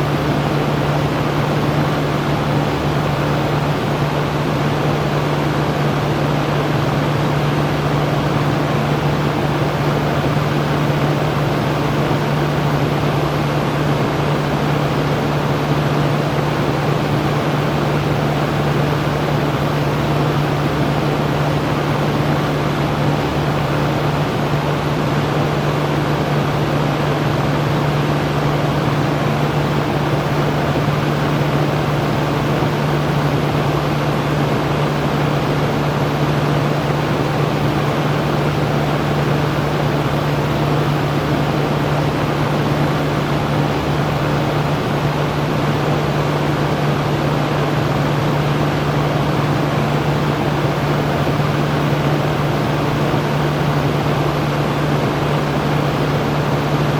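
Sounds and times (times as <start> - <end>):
electric fan running: 0.0 - 56.9.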